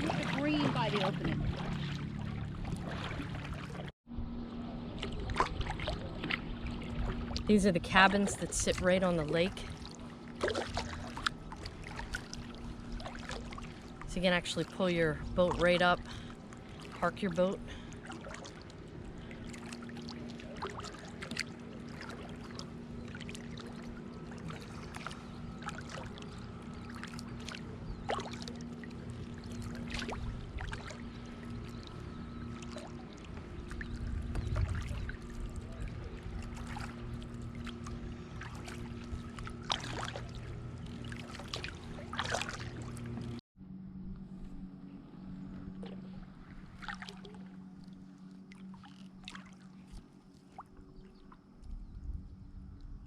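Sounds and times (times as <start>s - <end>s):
water splashing against kayak hull: 0.0s - 3.9s, 4.6s - 43.4s, 45.5s - 51.8s
steady low hum: 0.0s - 53.0s.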